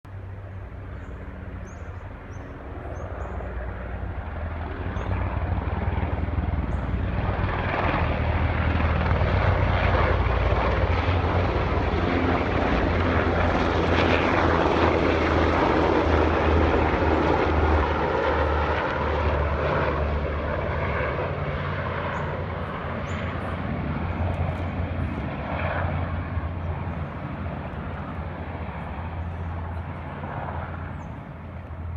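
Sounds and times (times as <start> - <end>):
helicopter rotor and turbine noise: 0.1 - 31.9.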